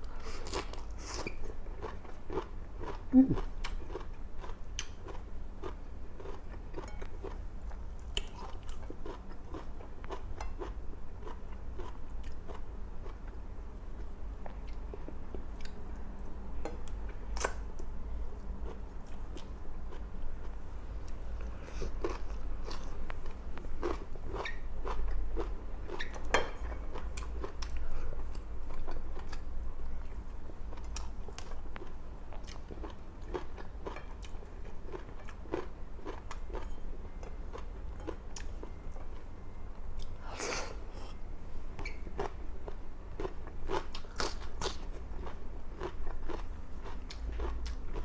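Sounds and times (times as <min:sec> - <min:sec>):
person chewing and crunching food: 0:00.0 - 0:39.3, 0:41.8 - 0:48.0.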